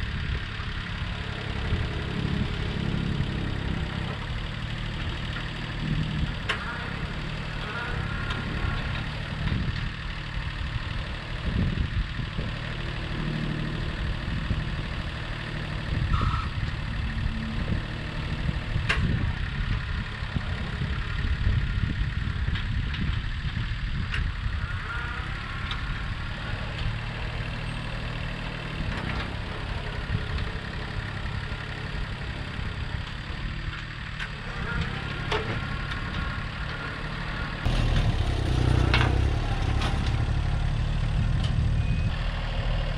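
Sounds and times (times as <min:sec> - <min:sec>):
distant tractor engine running: 0:00.0 - 0:42.9.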